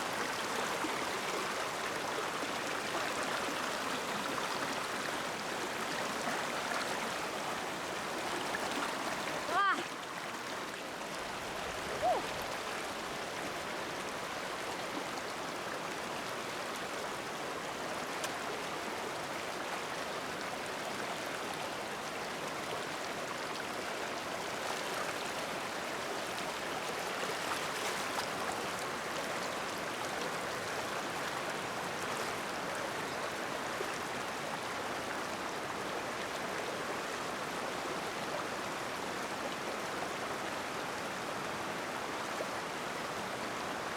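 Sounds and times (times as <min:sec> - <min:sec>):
stream flowing: 0:00.0 - 0:43.9.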